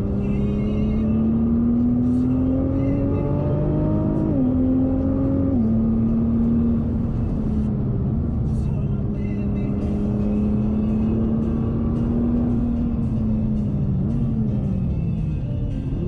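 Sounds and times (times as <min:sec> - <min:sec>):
car engine pulling hard: 0:00.0 - 0:14.7.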